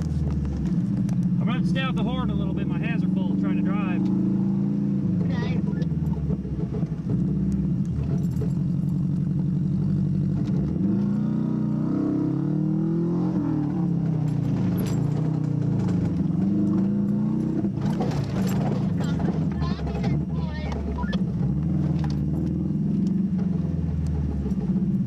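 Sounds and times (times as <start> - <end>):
knocks and rattles from bumpy ride: 0.0 - 11.2, 13.0 - 25.0
car engine running under load: 0.0 - 25.0.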